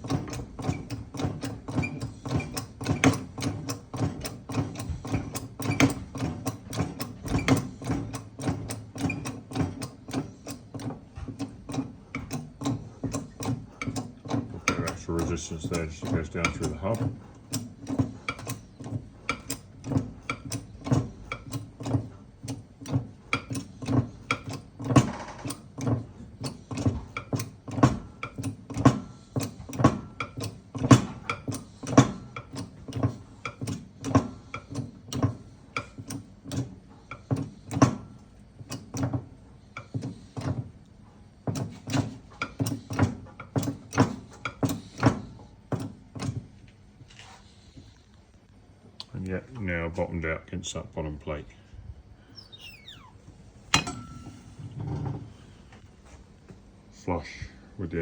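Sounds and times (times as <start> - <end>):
workshop press clicking: 0.0 - 48.0, 52.3 - 56.8.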